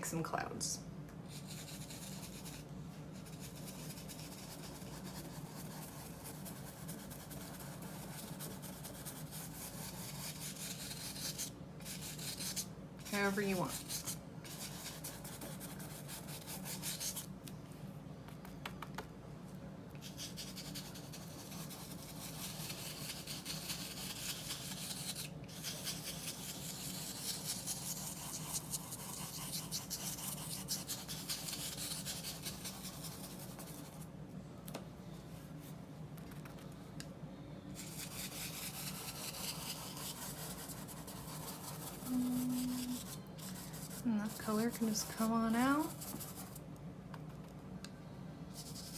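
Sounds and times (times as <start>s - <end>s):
brush scratching on paper: 1.3s - 17.3s, 20.0s - 34.0s, 37.8s - 46.6s, 48.6s - 48.9s.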